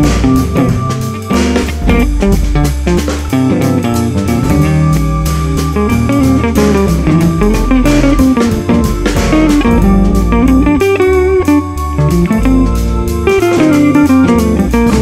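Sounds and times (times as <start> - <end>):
bass: 0.0 - 15.0
drums beat: 0.0 - 15.0
guitar: 0.0 - 15.0.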